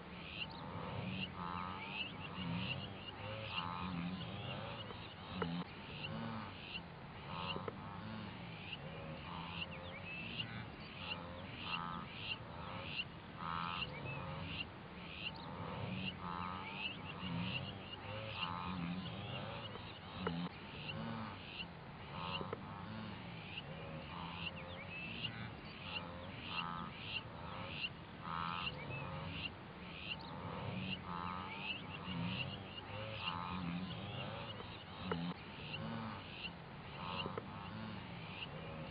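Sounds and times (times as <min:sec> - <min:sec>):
wildebeest herd grunting: 0:00.0 - 0:38.9.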